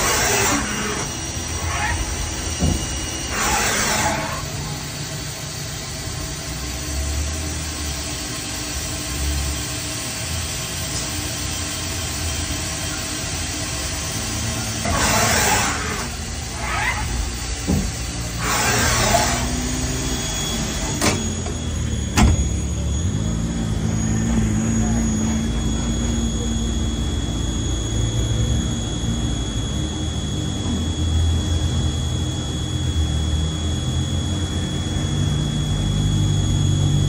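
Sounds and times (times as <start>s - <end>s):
lathe machine hum: 0.0s - 37.0s.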